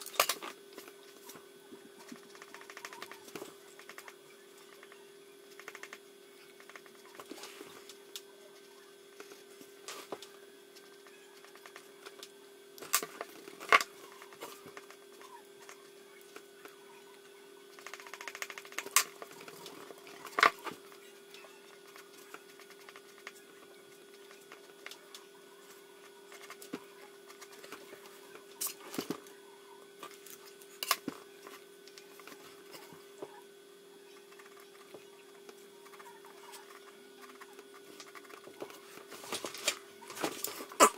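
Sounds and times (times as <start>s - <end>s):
steady hum: 0.0s - 40.9s.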